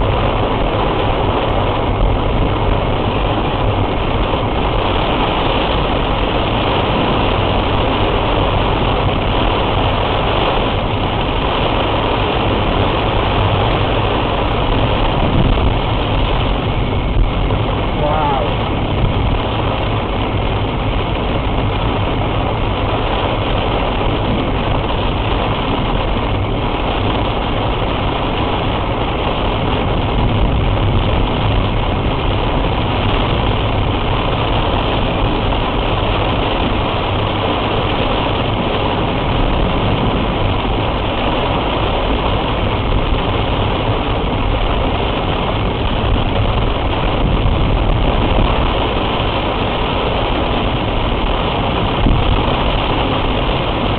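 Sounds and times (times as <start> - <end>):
car engine running: 0.0 - 53.9
heavy rain on car: 0.0 - 53.9.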